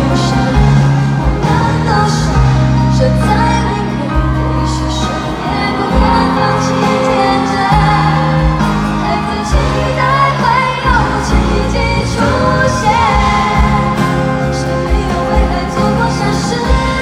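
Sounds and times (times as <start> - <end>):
pop band playing: 0.0 - 17.0
woman singing: 0.0 - 17.0.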